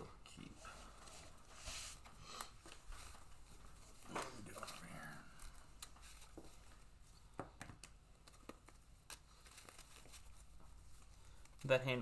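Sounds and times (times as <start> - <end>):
cards shuffling by hand: 1.6 - 12.0.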